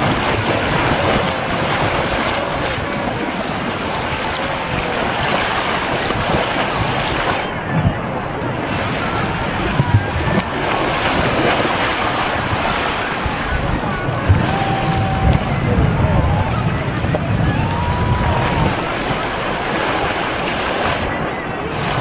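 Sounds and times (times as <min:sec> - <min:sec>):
water rushing in a whirlpool: 0:00.0 - 0:22.0.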